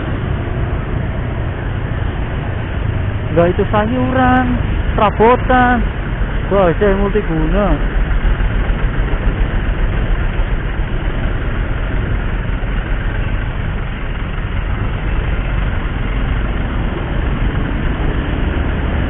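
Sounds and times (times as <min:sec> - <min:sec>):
motorcycle engine and road noise: 0:00.0 - 0:19.0.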